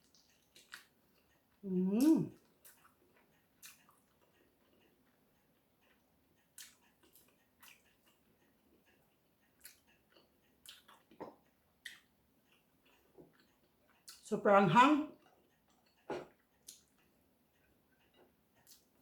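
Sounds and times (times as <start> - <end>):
quiet chewing: 0.0 - 14.3, 15.1 - 19.0.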